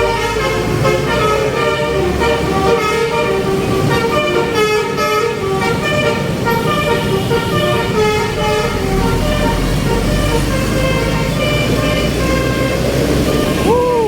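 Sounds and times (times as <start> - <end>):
multi-tone air horn tune: 0.0 - 14.0.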